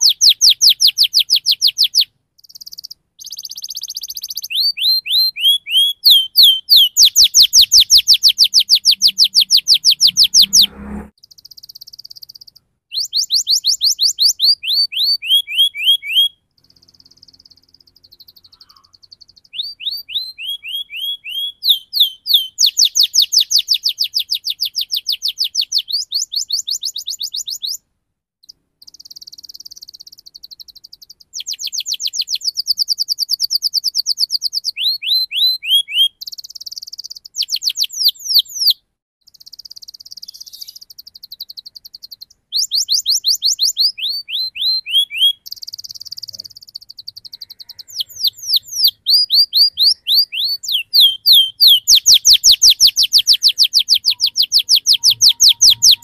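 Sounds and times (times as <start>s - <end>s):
canary singing: 0.0s - 27.8s, 28.4s - 56.0s.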